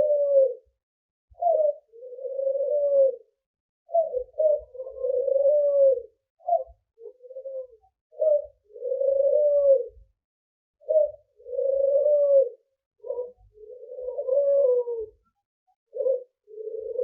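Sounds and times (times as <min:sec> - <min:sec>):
dove cooing: 0:00.0 - 0:00.7, 0:01.3 - 0:10.2, 0:10.8 - 0:15.3, 0:15.9 - 0:17.0.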